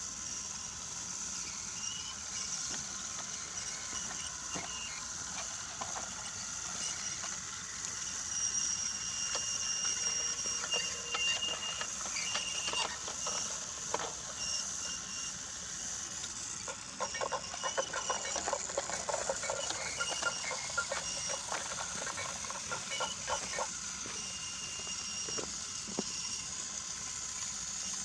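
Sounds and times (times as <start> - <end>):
toy train clicking on wooden track: 0.2 - 28.0.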